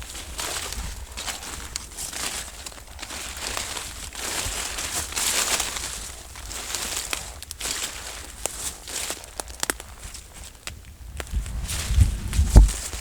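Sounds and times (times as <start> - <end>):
footsteps through undergrowth: 0.0 - 13.0
twigs snapping: 0.0 - 13.0.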